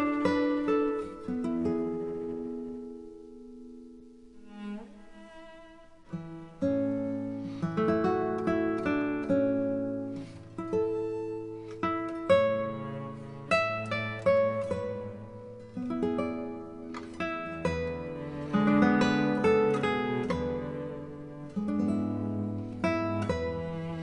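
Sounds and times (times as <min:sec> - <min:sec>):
plucked acoustic guitar: 0:00.0 - 0:24.0.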